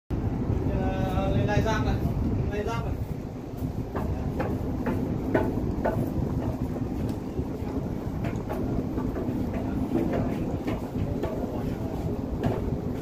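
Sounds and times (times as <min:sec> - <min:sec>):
low ship engine hum: 0:00.1 - 0:13.0
wind buffeting microphone: 0:00.1 - 0:13.0.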